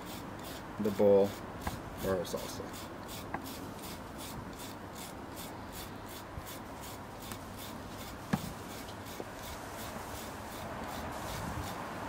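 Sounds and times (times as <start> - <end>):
grater scraping lime peel: 0.0 - 12.0.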